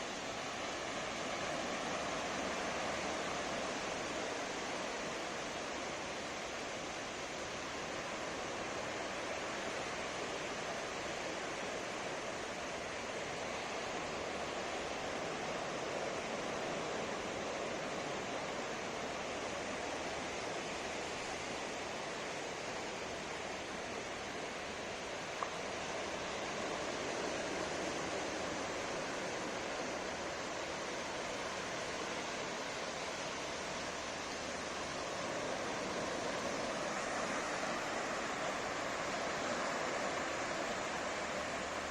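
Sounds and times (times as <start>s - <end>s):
waves breaking on beach: 0.0s - 41.9s.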